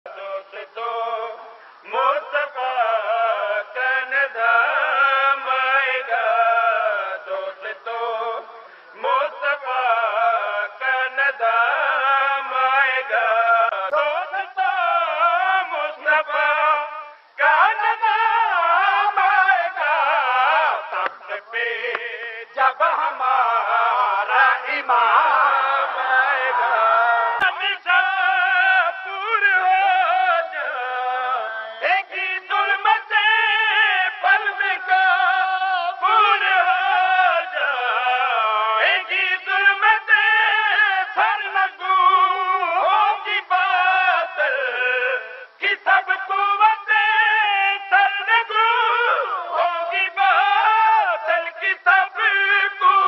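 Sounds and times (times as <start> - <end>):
man chanting: 0.1 - 53.0.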